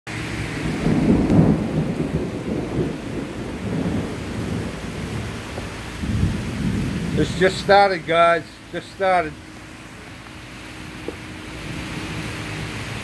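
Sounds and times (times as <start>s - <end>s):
steady rainfall: 0.1s - 13.0s
thunder rumbling: 0.1s - 13.0s.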